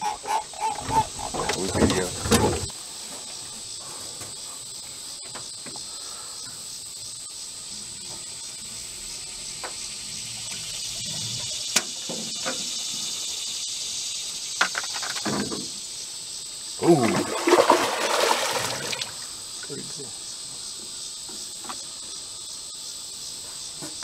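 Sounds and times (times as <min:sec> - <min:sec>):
insects droning high-pitched: 0:00.0 - 0:24.0.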